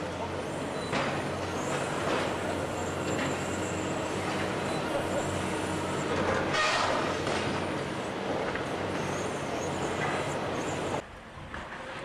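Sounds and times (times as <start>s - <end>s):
excavator running: 0.0s - 12.0s.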